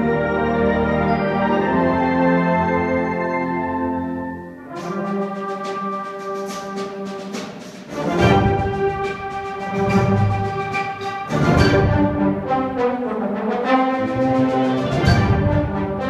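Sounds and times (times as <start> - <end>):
wind band with brass playing: 0.0 - 16.0.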